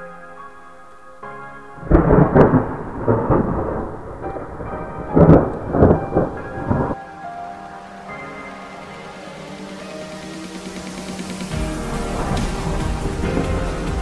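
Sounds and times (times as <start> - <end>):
background music with held notes: 0.0 - 14.0
thunder rumbling and cracking: 1.8 - 7.2, 7.9 - 14.0.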